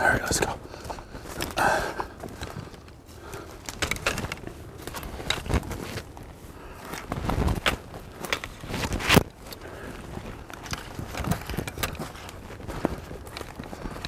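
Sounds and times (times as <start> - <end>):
clothing and gear rustling: 0.0 - 14.0.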